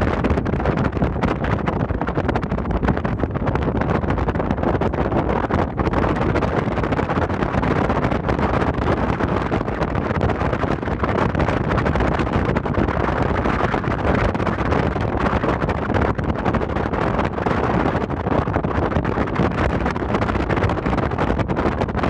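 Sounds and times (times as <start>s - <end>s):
ferry rushing noise and rumble: 0.0s - 22.0s
wind buffeting microphone: 0.0s - 22.0s.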